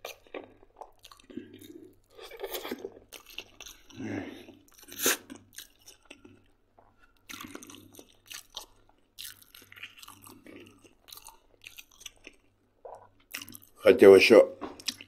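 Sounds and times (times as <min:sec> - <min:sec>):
person chewing food: 0:00.0 - 0:13.8, 0:14.6 - 0:15.0.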